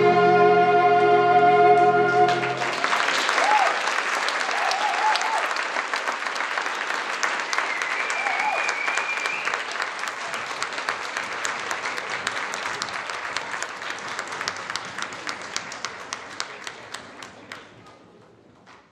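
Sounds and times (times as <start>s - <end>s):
audience applause: 2.3s - 18.0s.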